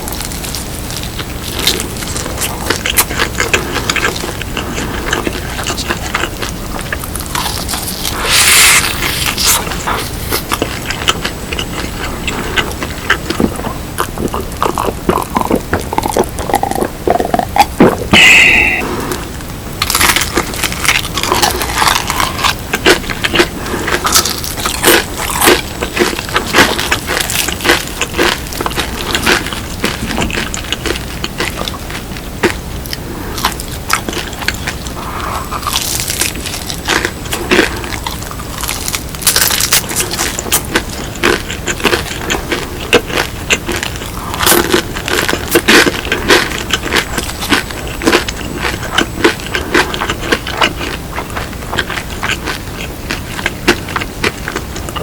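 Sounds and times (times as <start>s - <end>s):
crunchy chewing of fried chicken: 0.0s - 55.0s.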